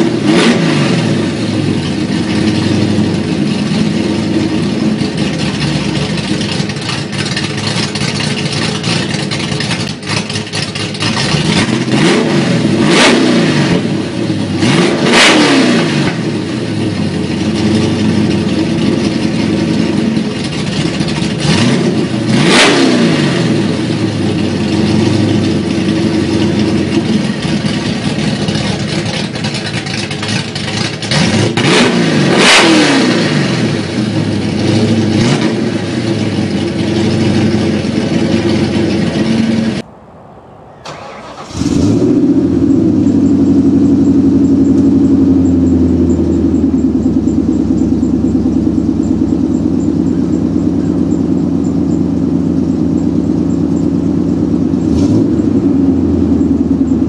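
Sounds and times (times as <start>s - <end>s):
car engine idling: 0.0s - 13.0s, 13.6s - 15.1s, 15.8s - 32.4s, 33.2s - 57.0s
engine revving in blips: 0.0s - 57.0s.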